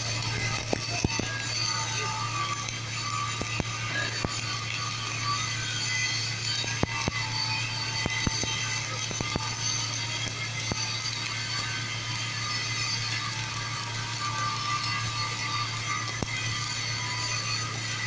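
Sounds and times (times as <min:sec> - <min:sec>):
sharp welding pops: 0:00.0 - 0:17.6
welder arc crackling: 0:00.0 - 0:18.0.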